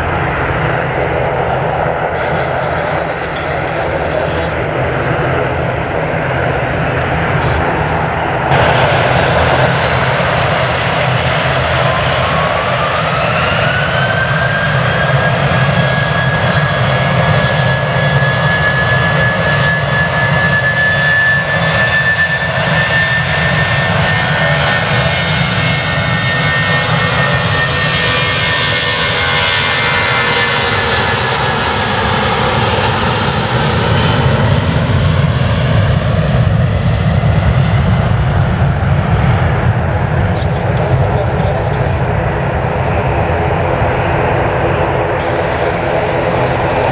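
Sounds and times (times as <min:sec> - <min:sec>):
jet engines spooling up: 0:00.0 - 0:16.4, 0:24.4 - 0:46.9.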